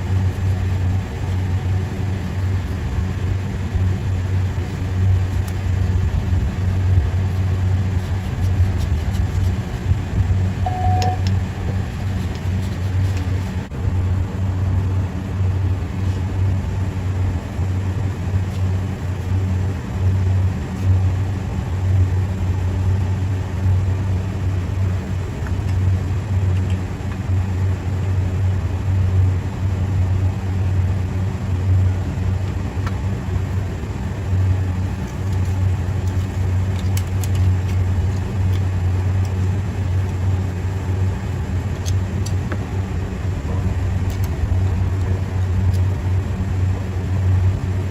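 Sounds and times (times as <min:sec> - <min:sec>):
machinery humming: 0:00.0 - 0:47.9.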